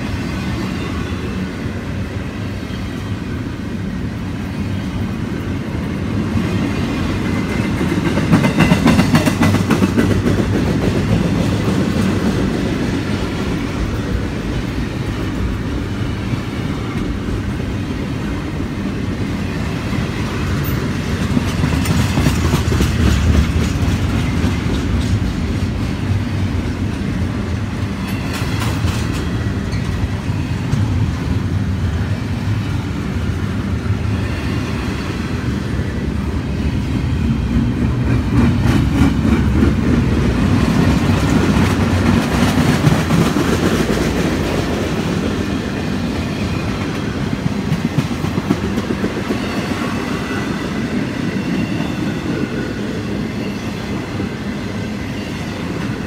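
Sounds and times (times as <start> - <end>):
train wheels rumbling on rails: 0.0 - 56.0
clickety-clack over rail joints: 4.5 - 53.6.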